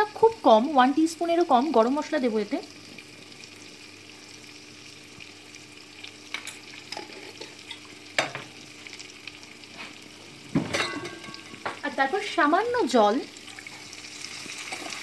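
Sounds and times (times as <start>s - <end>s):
potatoes sizzling in a pan: 0.0s - 15.0s.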